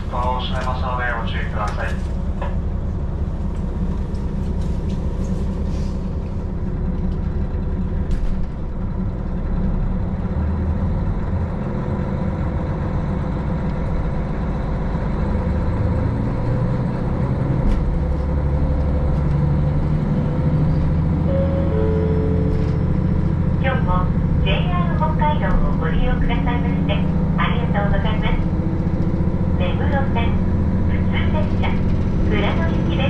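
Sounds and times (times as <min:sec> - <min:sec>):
train diesel engine running: 0:00.0 - 0:33.0.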